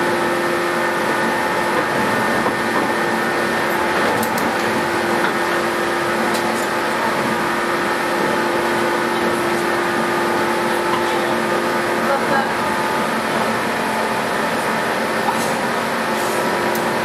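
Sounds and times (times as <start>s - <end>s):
electric train motors humming: 0.0s - 17.0s
train running noise: 0.0s - 17.0s.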